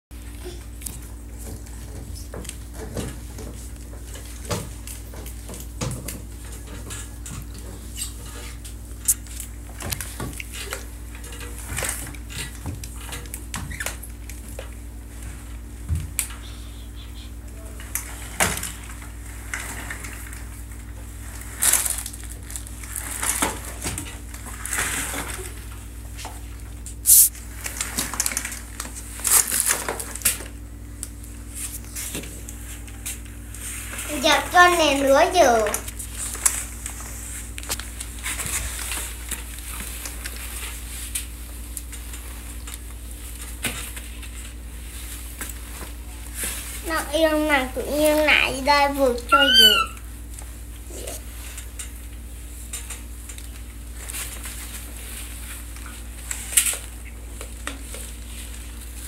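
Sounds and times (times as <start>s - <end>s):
steady low hum: 0.1s - 59.0s.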